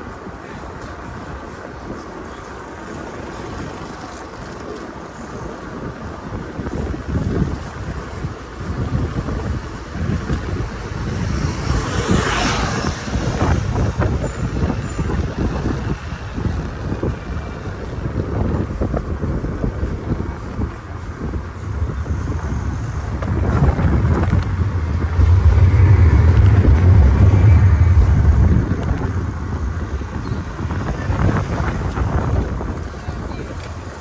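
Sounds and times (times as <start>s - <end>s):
wind buffeting microphone: 5.2s - 34.0s.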